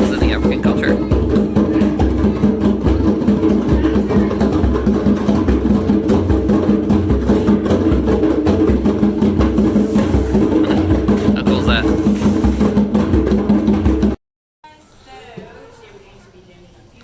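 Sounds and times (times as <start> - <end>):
fast drumming beat: 0.0 - 14.2.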